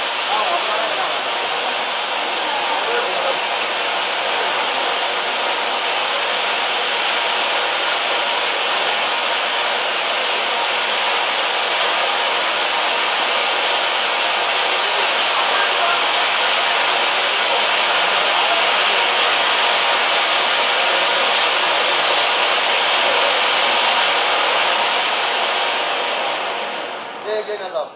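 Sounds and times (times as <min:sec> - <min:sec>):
fountain firework hissing: 0:00.0 - 0:27.9.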